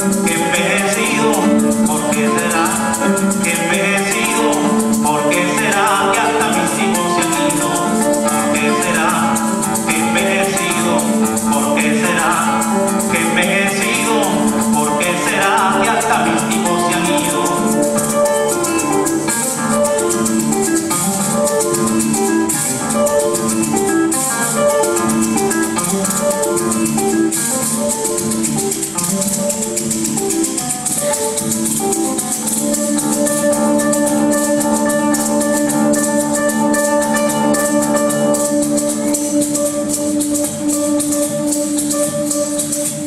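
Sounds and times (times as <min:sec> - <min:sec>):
classical guitar: 0:00.0 - 0:43.0
maracas shaking: 0:00.0 - 0:43.0
small plucked string instrument: 0:00.0 - 0:43.0.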